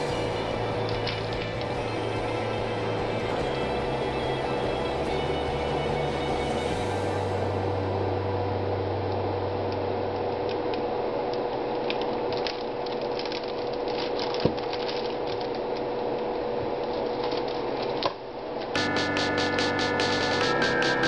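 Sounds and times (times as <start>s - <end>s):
faint hum: 0.0s - 14.2s, 15.0s - 21.0s.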